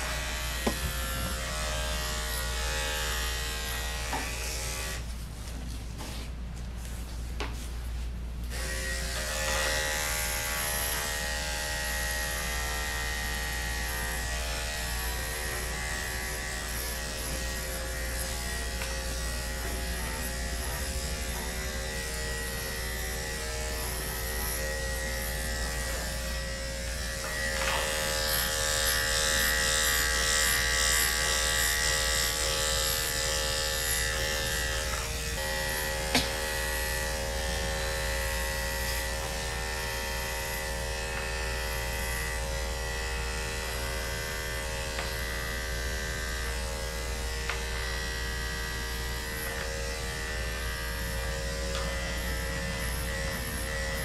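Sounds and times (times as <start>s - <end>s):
electric clipper buzzing: 0.0s - 5.1s, 8.4s - 54.0s.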